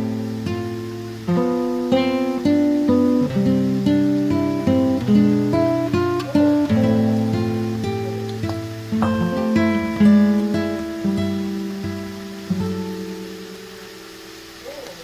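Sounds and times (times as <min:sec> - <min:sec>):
acoustic guitar notes plucked: 0:00.0 - 0:15.0.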